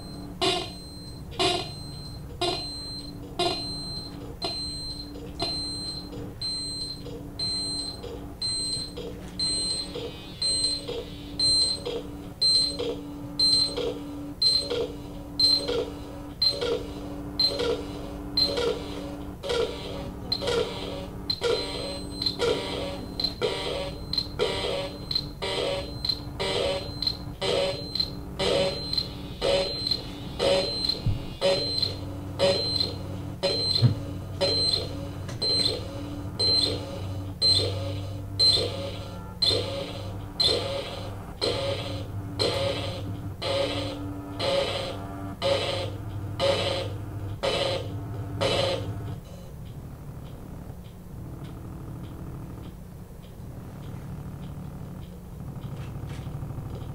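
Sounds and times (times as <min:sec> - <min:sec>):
deep electronic hum: 0:00.0 - 0:56.9.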